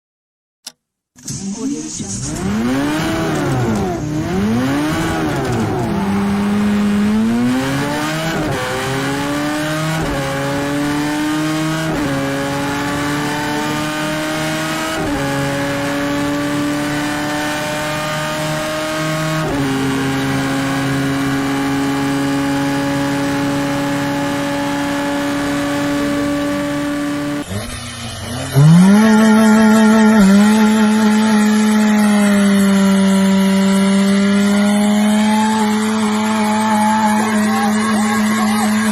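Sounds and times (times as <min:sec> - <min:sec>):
car engine accelerating through gears: 0:01.3 - 0:38.9
engine revving high: 0:01.3 - 0:38.9.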